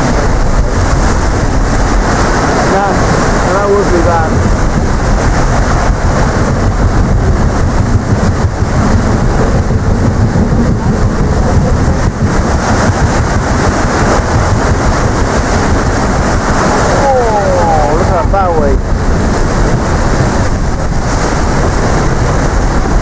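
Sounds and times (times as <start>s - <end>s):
heavy wind buffeting microphone: 0.0s - 23.0s.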